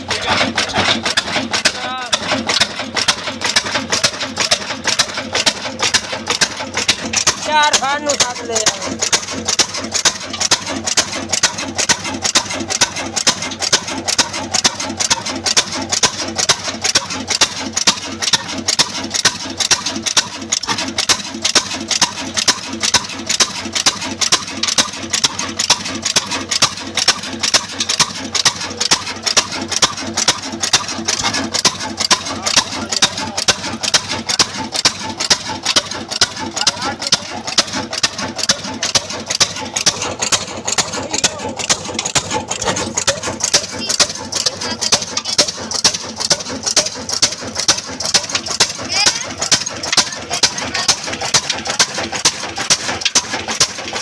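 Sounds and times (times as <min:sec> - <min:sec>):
diesel engine running slowly: 0:00.0 - 0:54.0.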